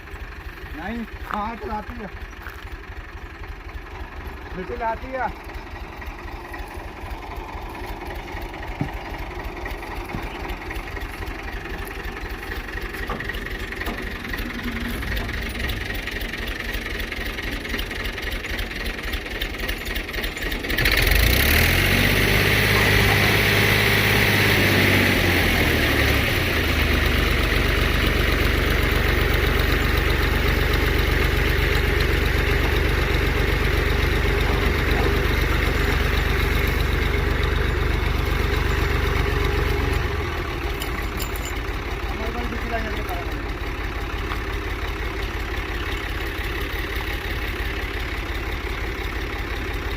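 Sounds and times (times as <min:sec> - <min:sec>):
tractor engine running: 0:00.0 - 0:49.9
wheat thresher running: 0:00.0 - 0:49.9.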